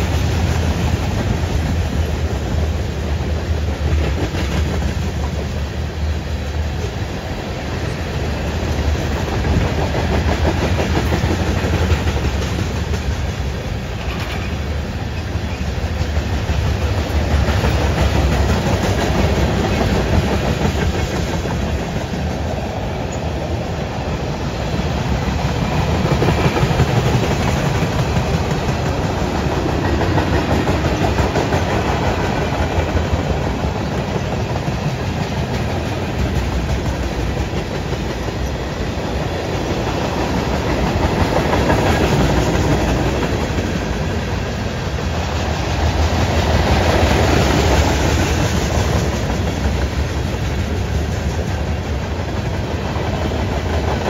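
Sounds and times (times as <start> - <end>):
steel wheels rumbling on rail: 0.0 - 54.0
train clickety-clack: 0.0 - 54.0.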